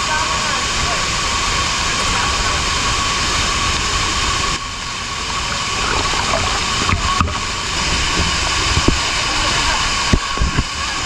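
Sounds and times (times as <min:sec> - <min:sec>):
waterfall crashing down: 0:00.0 - 0:11.0.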